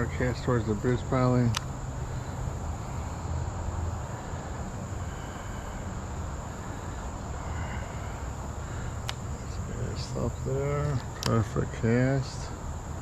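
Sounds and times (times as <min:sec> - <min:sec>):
crickets chirring: 0:00.0 - 0:13.0
low outdoor rumble: 0:00.0 - 0:13.0.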